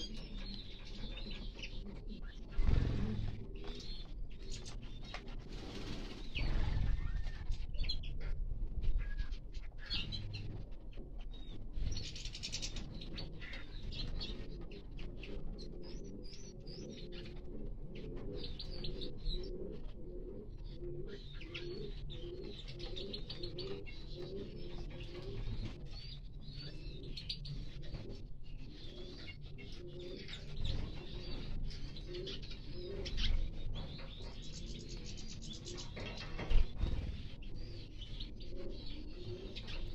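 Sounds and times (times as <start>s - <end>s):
pigeons cooing: 0.0s - 39.9s
songbirds chirping: 0.0s - 39.9s.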